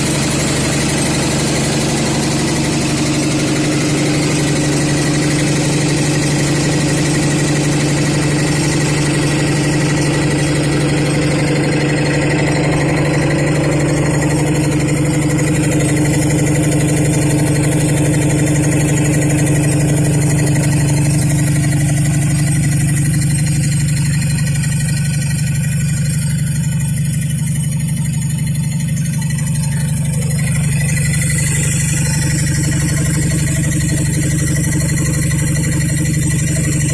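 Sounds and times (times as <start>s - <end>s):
air compressor humming: 0.0s - 36.9s.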